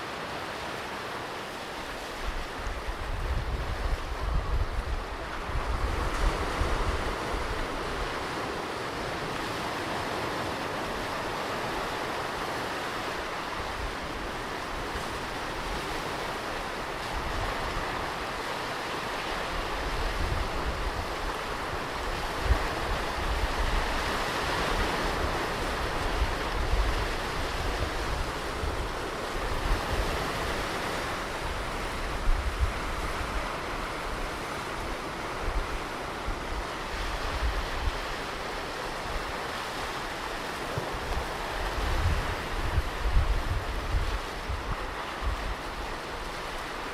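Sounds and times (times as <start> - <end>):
ocean waves breaking: 0.0 - 46.9.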